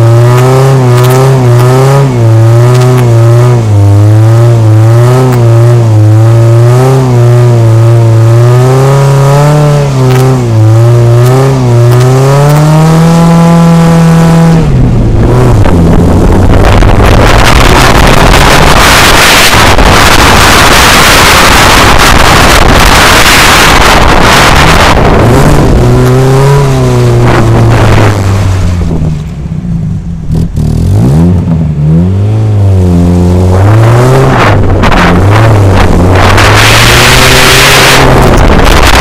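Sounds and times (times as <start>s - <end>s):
car engine revving: 0.0s - 39.0s
wind and road roar: 0.0s - 39.0s.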